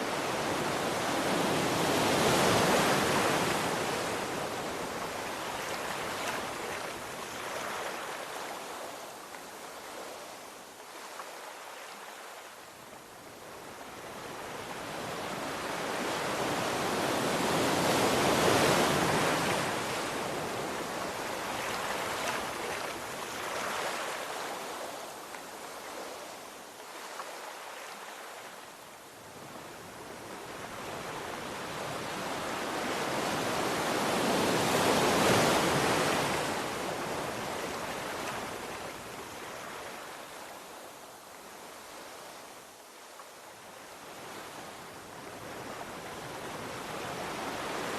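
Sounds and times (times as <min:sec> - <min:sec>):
sea waves washing onto shore: 0:00.0 - 0:47.9.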